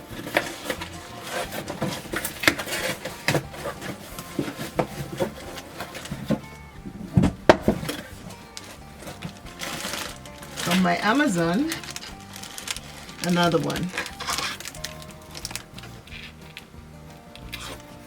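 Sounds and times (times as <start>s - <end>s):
packaging rustling and tearing: 0.0s - 6.4s, 7.7s - 16.6s, 17.4s - 18.0s.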